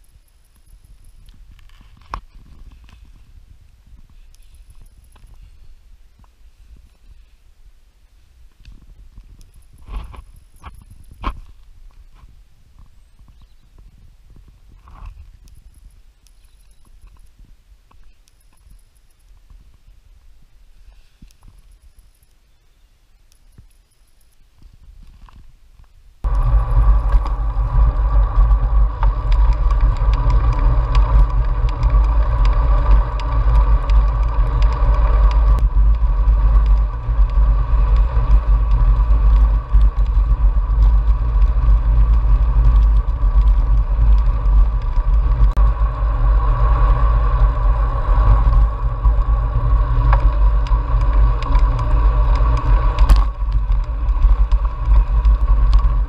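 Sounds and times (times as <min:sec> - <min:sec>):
wind and road noise rumble: 0:00.0 - 0:56.0.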